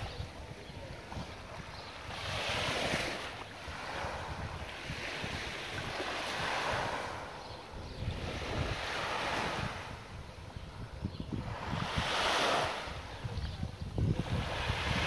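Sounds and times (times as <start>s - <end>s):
small waves breaking on a beach: 0.0s - 15.0s
wind buffeting the microphone: 0.0s - 15.0s.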